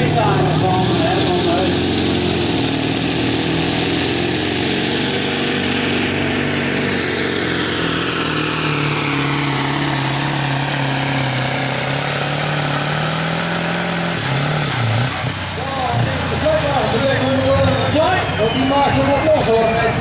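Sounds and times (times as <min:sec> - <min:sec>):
truck diesel engine at full load: 0:00.0 - 0:20.0.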